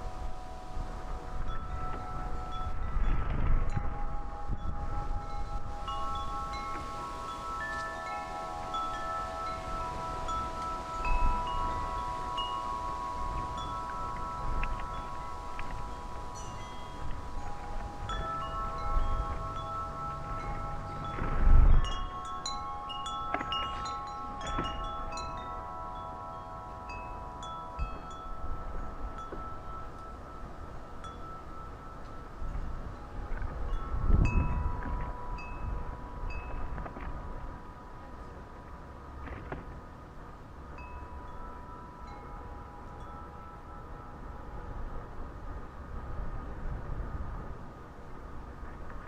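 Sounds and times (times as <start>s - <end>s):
wind chimes ringing: 0.0s - 39.2s, 39.8s - 48.6s
wind buffeting microphone: 0.0s - 49.0s.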